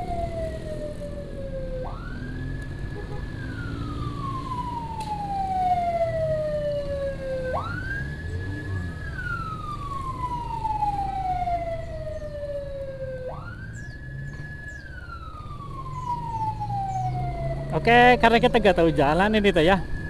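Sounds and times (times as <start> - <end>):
wailing siren: 0.0 - 20.0.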